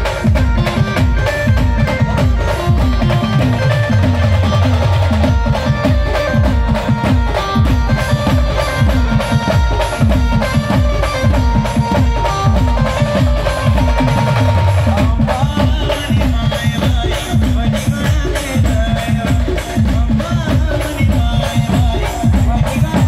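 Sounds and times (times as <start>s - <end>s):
loud driving drums: 0.0s - 23.0s.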